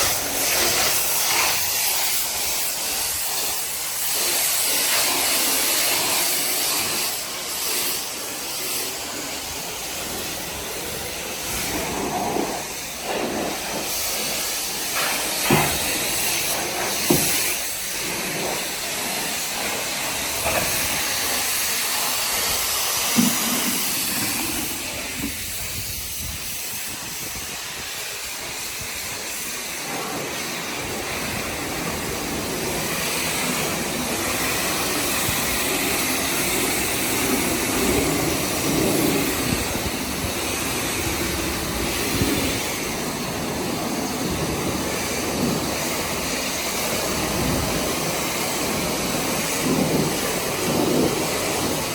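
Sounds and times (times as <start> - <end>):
pressure washer spraying: 0.0 - 51.9.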